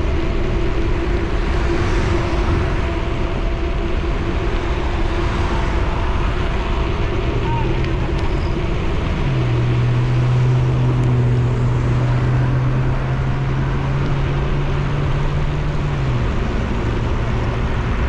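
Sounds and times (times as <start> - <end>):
traffic: 0.0 - 18.0
wind on microphone: 0.0 - 18.0.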